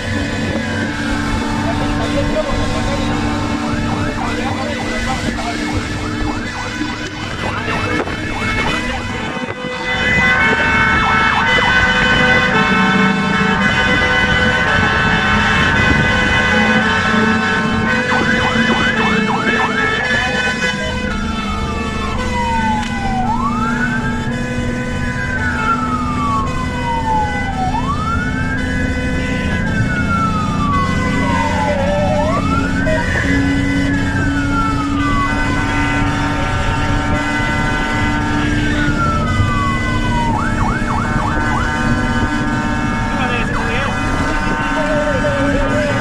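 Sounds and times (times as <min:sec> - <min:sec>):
engine rumble: 0:00.0 - 0:46.0
fire engine siren wailing: 0:00.0 - 0:46.0.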